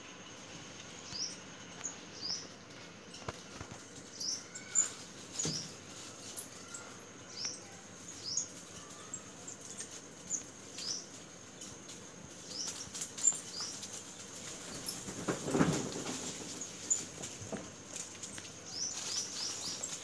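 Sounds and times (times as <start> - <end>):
bird chirping: 0.0 - 11.8, 12.4 - 15.1, 18.3 - 20.0.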